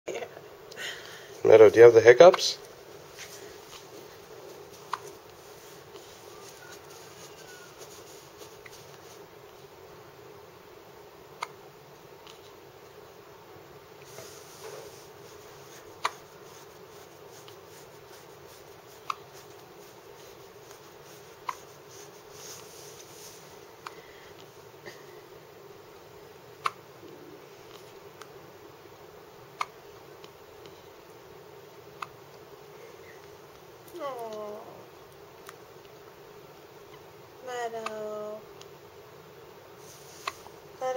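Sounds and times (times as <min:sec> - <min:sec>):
steady low hum: 0:00.1 - 0:40.9.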